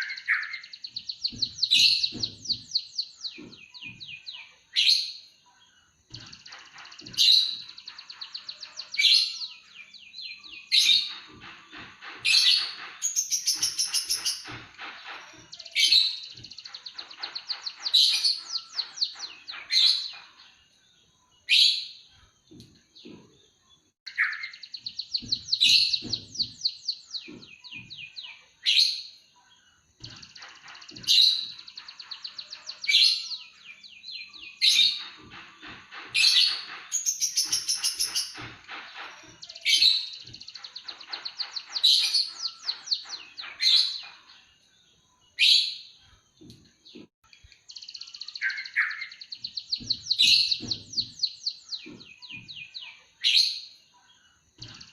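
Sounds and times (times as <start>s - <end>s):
songbird chirping and trilling: 0.0s - 54.9s.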